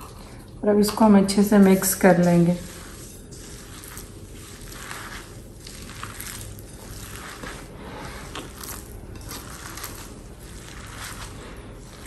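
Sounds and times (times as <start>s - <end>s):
wet squelching of kneaded mince: 1.0s - 12.0s.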